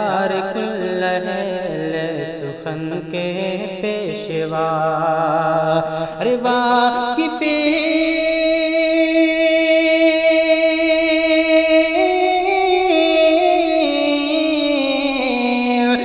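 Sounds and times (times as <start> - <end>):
man singing long notes: 0.0 - 16.0.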